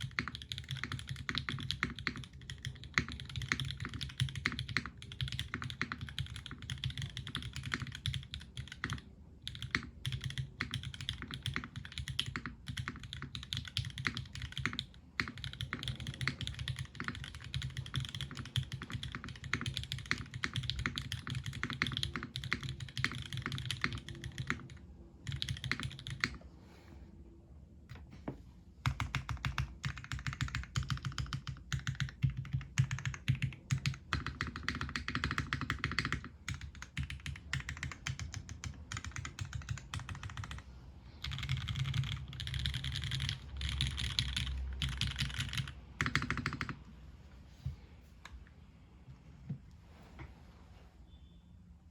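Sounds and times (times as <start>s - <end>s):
fast typing on mechanical keyboard: 0.0s - 26.4s, 28.8s - 40.6s, 41.2s - 46.8s.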